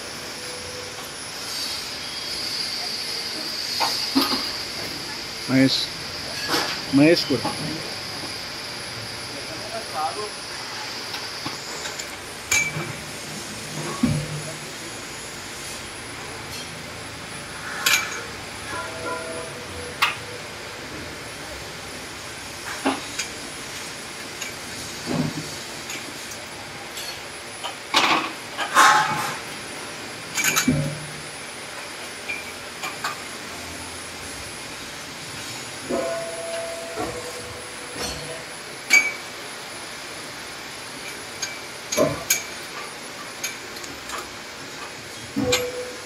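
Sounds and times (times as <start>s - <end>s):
steady background noise: 0.0s - 46.0s.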